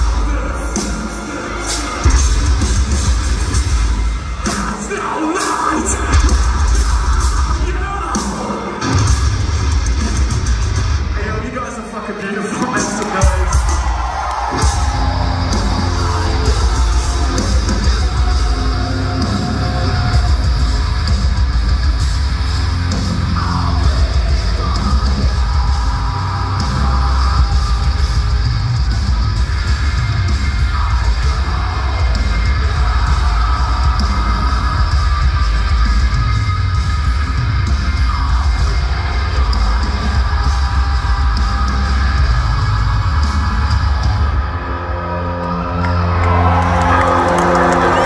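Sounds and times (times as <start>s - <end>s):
heavy metal band playing live: 0.0s - 48.0s.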